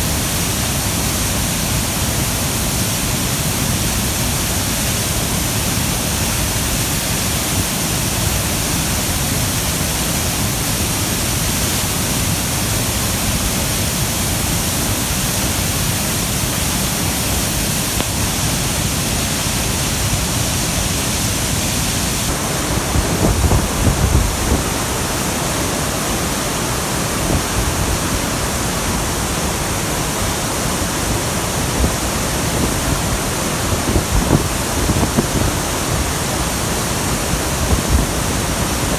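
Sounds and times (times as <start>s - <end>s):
waterfall: 0.0s - 38.9s.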